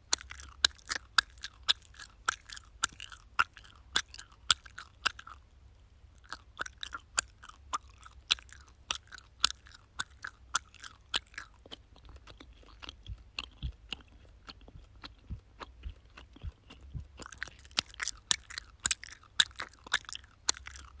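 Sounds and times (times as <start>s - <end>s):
mouth chewing gum: 0.0s - 5.5s, 6.2s - 21.0s.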